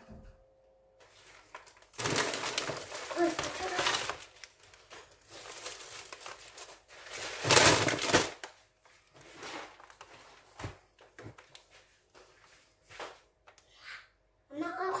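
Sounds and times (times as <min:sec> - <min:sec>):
plastic packaging rustling: 0:01.0 - 0:13.4.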